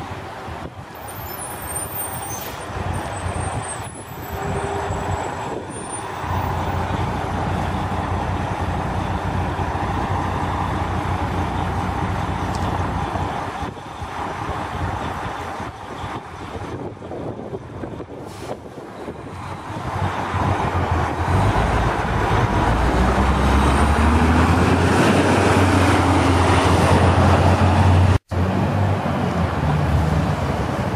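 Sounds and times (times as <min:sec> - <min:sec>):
diesel bus engine droning: 0:00.0 - 0:30.9.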